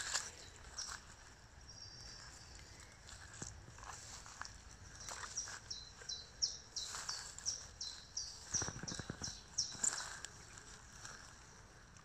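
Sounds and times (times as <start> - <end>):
rustling in undergrowth: 0.0 - 12.0
songbird singing: 0.0 - 12.0.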